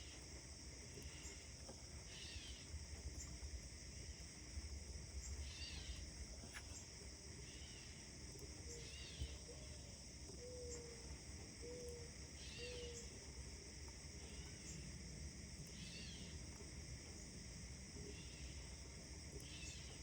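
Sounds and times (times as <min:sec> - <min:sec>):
high insect-like hiss: 0:00.0 - 0:20.0.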